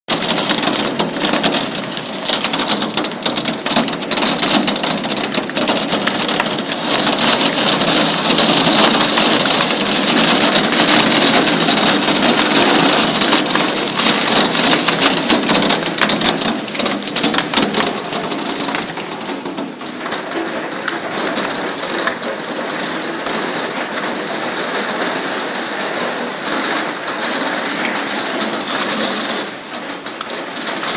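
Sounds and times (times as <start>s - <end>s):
hailstones clattering: 0.1s - 30.9s.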